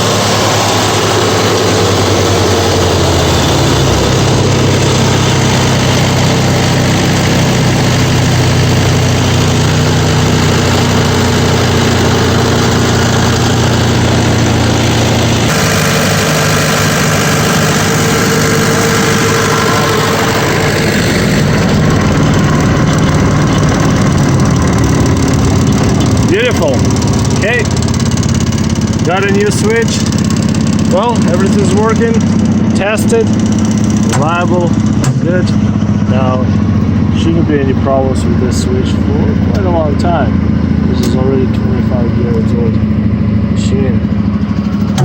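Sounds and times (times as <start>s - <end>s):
brush chipper engine running: 0.0s - 45.0s.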